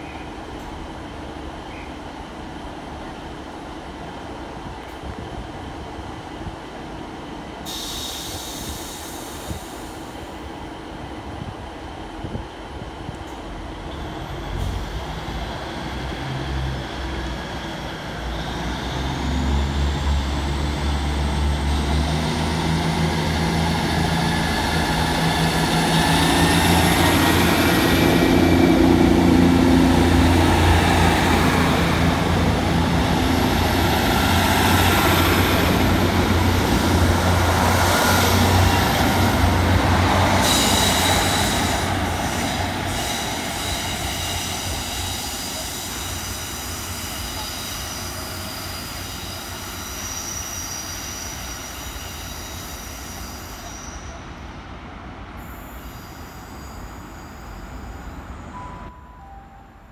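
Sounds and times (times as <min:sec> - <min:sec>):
diesel train engine: 0:00.0 - 0:59.4.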